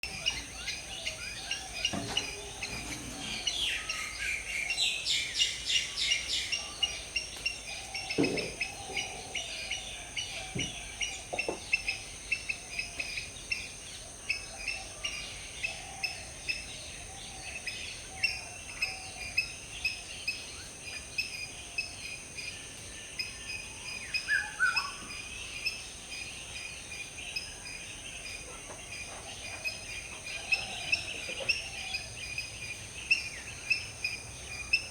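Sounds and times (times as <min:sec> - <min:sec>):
birds chirping and calling: 0:00.0 - 0:34.9.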